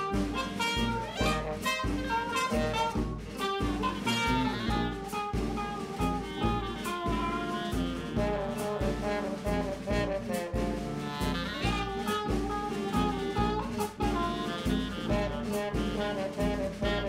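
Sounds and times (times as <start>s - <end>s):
jazz music with steady beat: 0.0s - 17.0s.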